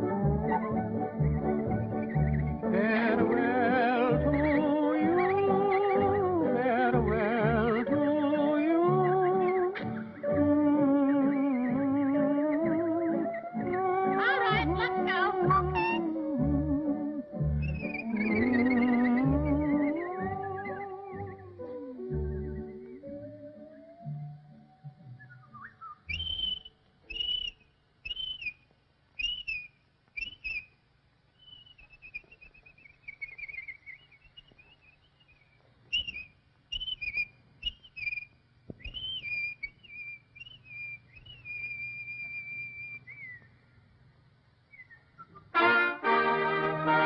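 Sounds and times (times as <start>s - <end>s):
whistled bird calls: 0.0s - 2.7s, 4.0s - 6.3s, 7.1s - 16.2s, 17.6s - 24.2s, 24.9s - 43.6s, 44.7s - 45.6s.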